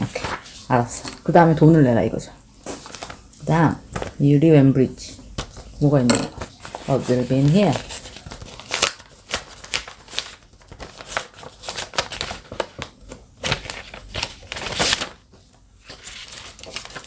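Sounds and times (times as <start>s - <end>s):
paper rustling: 0.0s - 1.4s, 2.6s - 4.2s, 5.0s - 17.0s.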